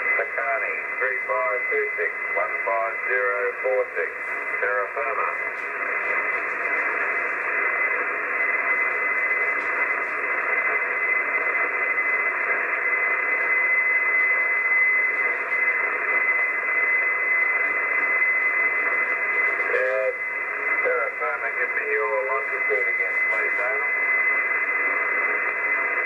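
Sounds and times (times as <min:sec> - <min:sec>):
radio band hiss: 0:00.0 - 0:26.0.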